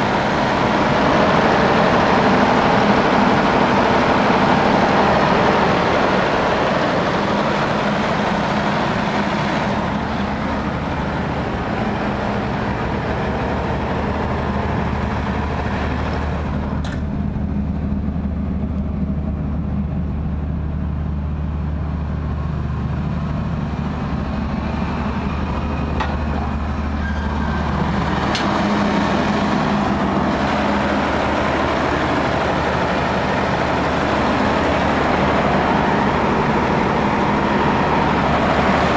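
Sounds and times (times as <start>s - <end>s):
diesel generator droning: 0.0s - 38.9s.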